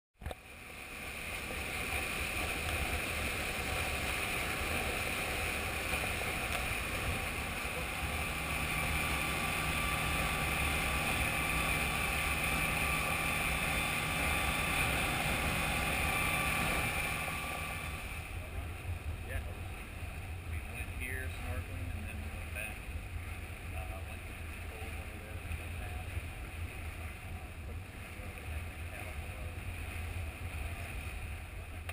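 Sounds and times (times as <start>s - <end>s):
boat motor droning: 0.2s - 31.9s
rushing water: 0.2s - 31.9s
wind: 0.2s - 31.9s.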